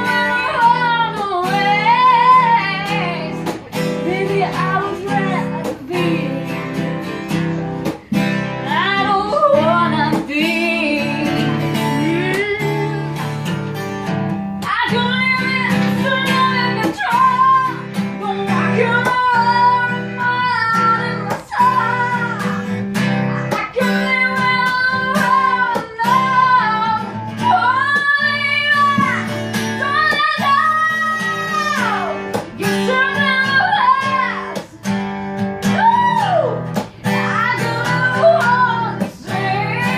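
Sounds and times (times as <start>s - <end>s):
person singing: 0.0s - 13.3s, 14.6s - 34.9s, 35.6s - 39.9s
strummed acoustic guitar: 0.0s - 39.9s.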